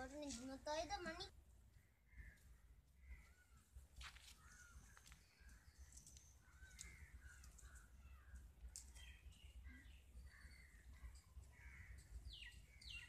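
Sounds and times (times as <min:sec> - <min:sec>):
bird calls: 0:01.7 - 0:13.0.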